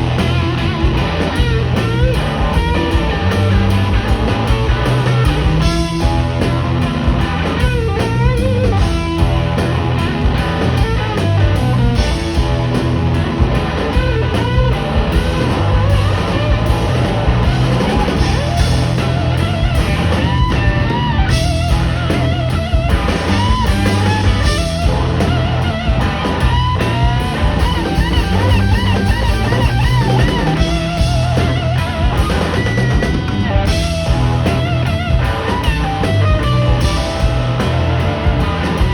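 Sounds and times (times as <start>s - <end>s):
bass guitar: 0.0s - 38.9s
drum kit: 0.0s - 38.9s
electric guitar lead: 0.0s - 38.9s.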